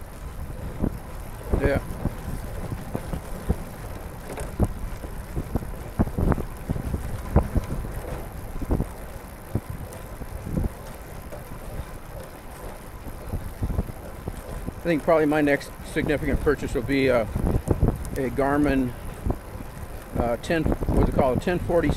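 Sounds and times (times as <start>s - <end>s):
tyres rolling on wet path: 0.0s - 21.9s
wind buffeting microphone: 0.0s - 21.9s.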